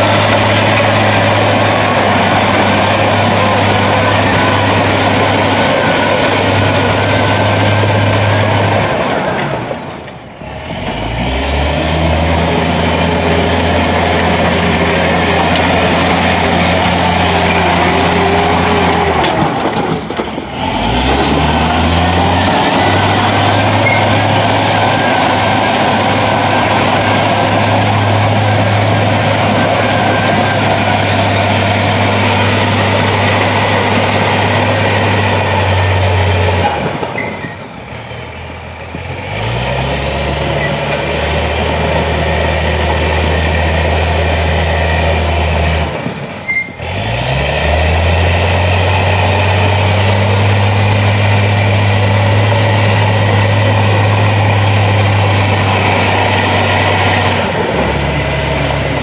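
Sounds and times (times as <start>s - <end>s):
dozer diesel engine running: 0.0s - 59.0s.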